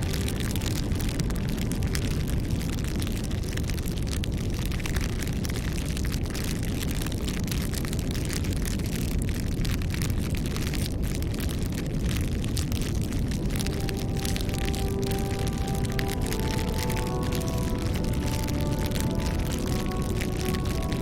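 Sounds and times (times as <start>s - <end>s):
bonfire flames rumbling: 0.0s - 21.0s
burning wood crackling and popping: 0.0s - 21.0s.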